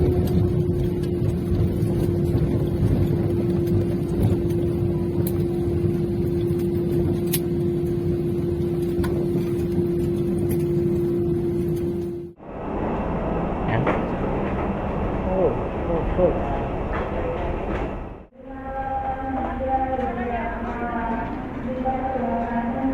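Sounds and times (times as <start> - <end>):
aircraft engine drone: 0.0 - 19.1.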